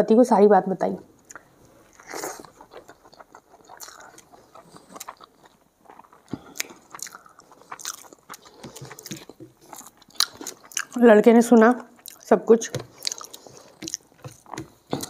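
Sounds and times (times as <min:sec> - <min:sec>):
wet mouth clicks and smacks: 0:01.2 - 0:11.0, 0:11.9 - 0:15.0
close chewing: 0:01.2 - 0:15.0.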